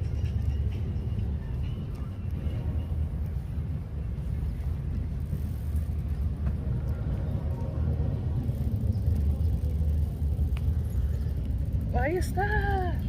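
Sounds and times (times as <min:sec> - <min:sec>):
car traffic: 0:00.0 - 0:13.0.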